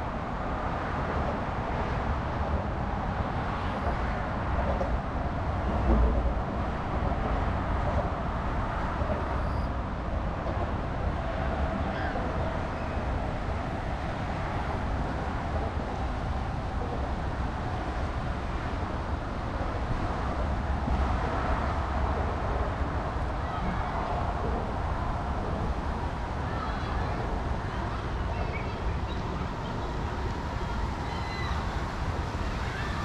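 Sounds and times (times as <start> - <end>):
low traffic rumble: 0.0 - 33.0.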